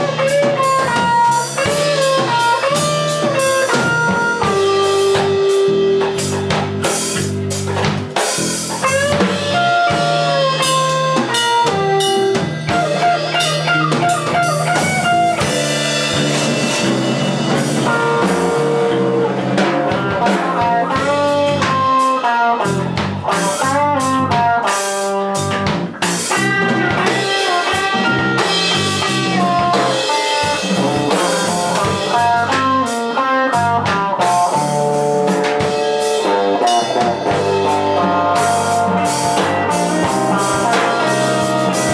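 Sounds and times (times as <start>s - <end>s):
bass: 0.0s - 41.9s
blues guitar with bending notes: 0.0s - 41.9s
drum kit: 0.0s - 41.9s.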